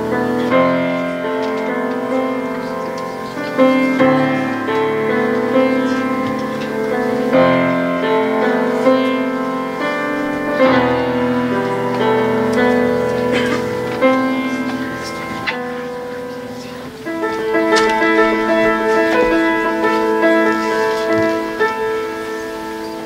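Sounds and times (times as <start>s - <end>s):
grand piano playing slow piece: 0.0s - 23.0s.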